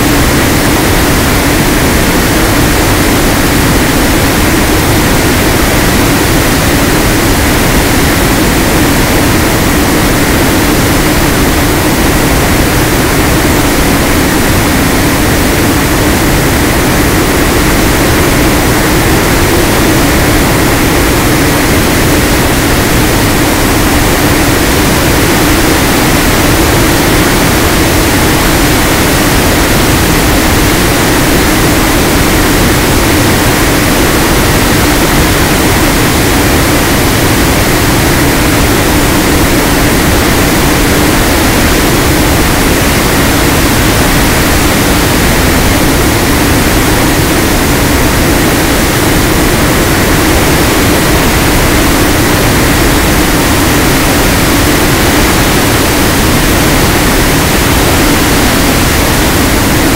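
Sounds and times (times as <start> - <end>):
propeller hum: 0.0 - 59.9
wind rush over microphone: 0.0 - 59.9.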